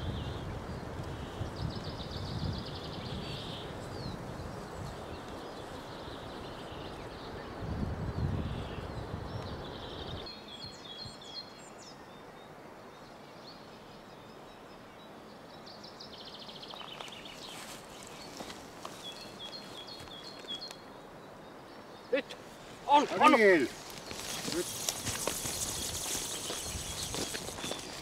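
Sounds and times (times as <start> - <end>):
faint outdoor hiss: 0.0 - 28.0
small songbird singing: 0.0 - 28.0.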